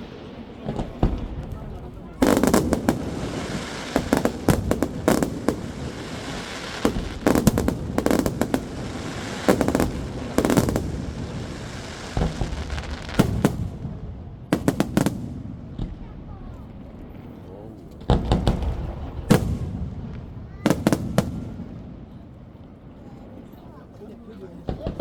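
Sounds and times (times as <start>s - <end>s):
fireworks bangs and crackles: 0.0s - 23.7s, 24.5s - 25.0s
echo of fireworks: 0.0s - 25.0s.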